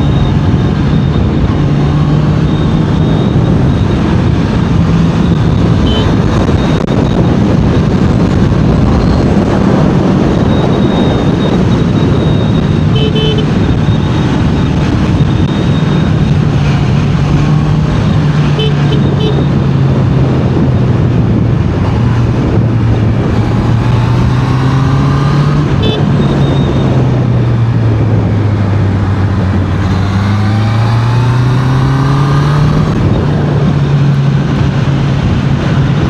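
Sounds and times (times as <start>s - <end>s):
motorcycle engine and exhaust: 0.0s - 36.0s
rush of wind noise: 0.0s - 36.0s.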